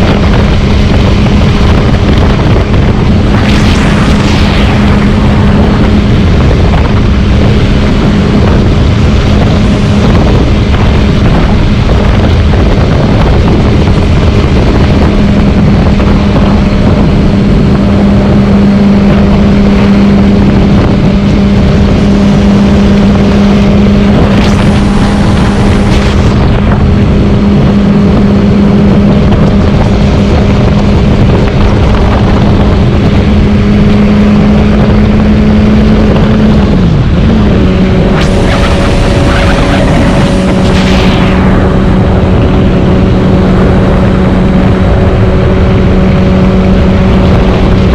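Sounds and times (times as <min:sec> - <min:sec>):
motorcycle engine running: 0:00.0 - 0:47.9
wind rumble on microphone: 0:00.0 - 0:47.9.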